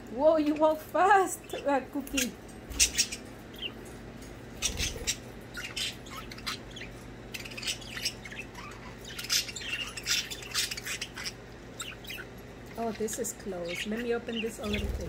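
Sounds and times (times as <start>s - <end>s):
budgerigars chirping: 1.4s - 3.9s, 4.6s - 15.0s.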